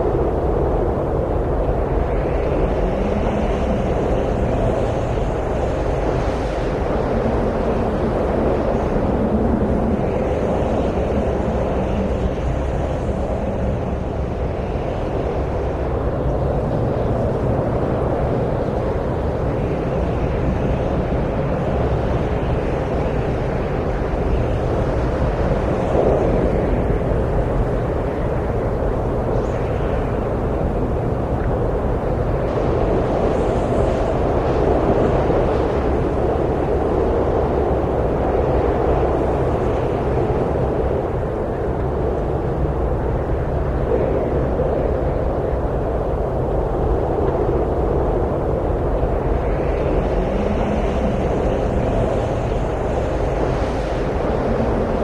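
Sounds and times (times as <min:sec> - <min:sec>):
wind blowing: 0:00.0 - 0:55.0.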